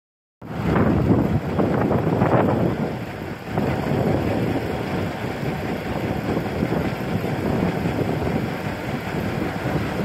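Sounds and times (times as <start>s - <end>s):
heavy truck approaching: 0.4s - 10.0s
highway traffic rumble: 0.4s - 10.0s
wind buffeting microphone: 0.4s - 10.0s.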